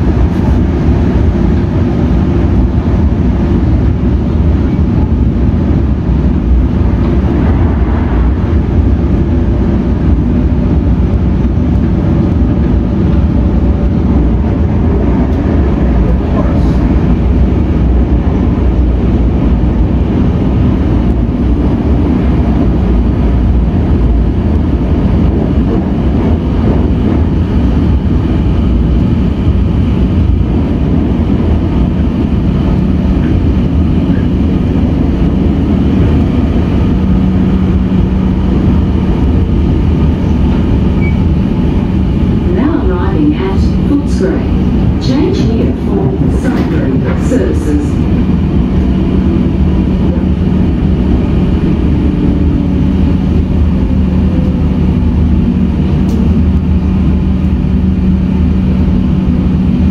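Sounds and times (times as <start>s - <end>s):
low steady hum: 0.0s - 59.9s
train wheels rumbling on rails: 0.0s - 59.9s.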